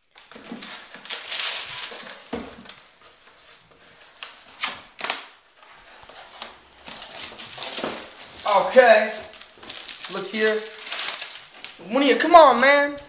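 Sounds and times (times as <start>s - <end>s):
cardboard rustling and scraping: 0.2s - 11.7s.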